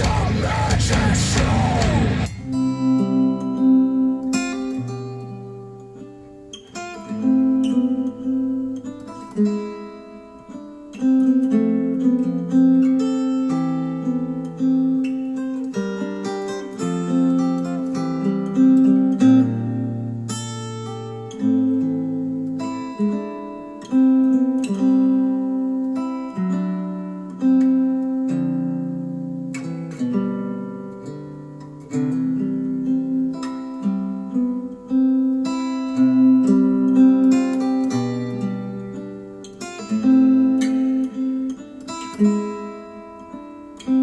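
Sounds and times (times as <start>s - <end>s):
acoustic guitar through speakers: 0.0s - 44.0s.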